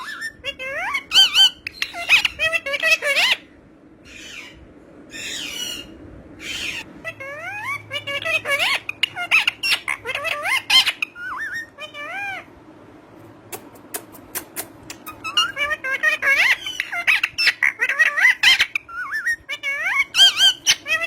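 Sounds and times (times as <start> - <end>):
parrot squawking: 0.0 - 12.5, 14.4 - 21.0.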